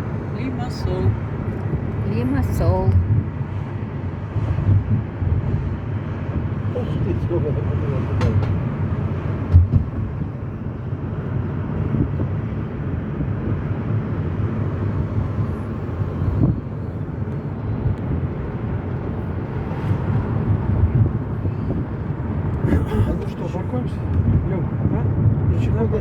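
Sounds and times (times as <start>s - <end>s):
car driving rumble: 0.0s - 26.0s.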